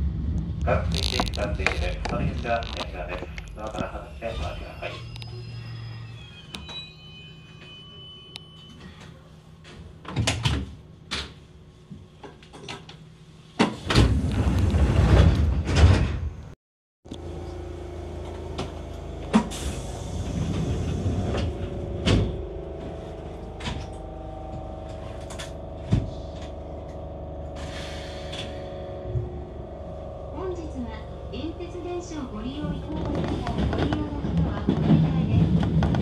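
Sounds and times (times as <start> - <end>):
train steady hum: 0.0 - 10.1, 17.1 - 36.0.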